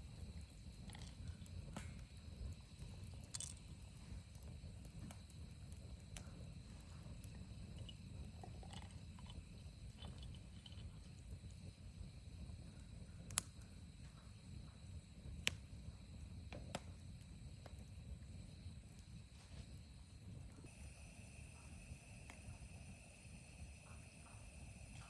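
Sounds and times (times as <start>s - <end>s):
fire low rumble: 0.0s - 25.0s
wood fire crackling and snapping: 0.0s - 25.0s.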